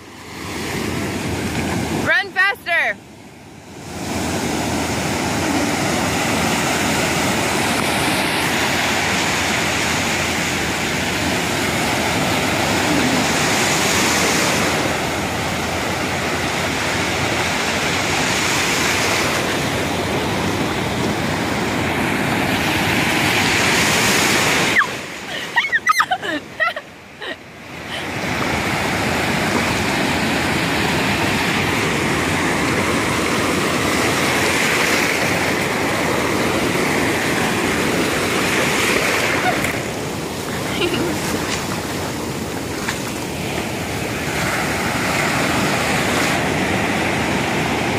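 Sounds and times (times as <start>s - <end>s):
ocean surf breaking: 0.0s - 47.9s.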